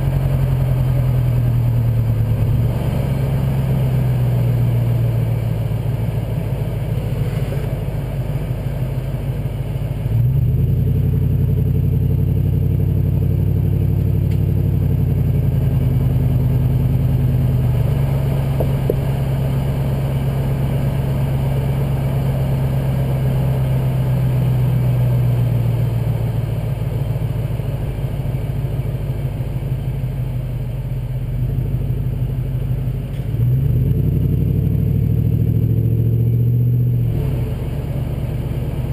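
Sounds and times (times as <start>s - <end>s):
car exhaust under throttle: 0.0s - 38.9s.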